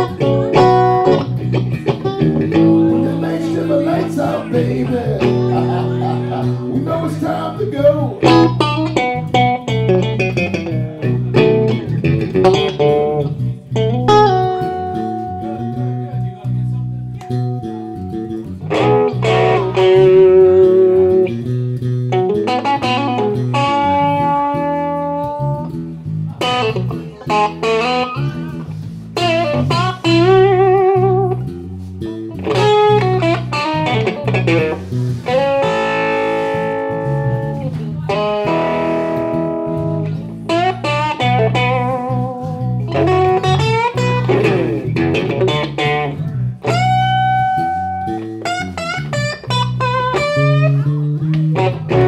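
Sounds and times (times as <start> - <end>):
blues-rock electric guitar lead: 0.0 - 52.0
electric bass line: 0.0 - 52.0.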